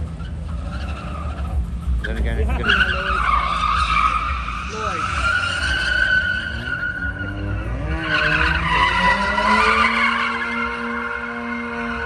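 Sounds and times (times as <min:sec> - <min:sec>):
car engine revving: 0:00.0 - 0:12.0
tyres squealing on tarmac: 0:00.0 - 0:12.0.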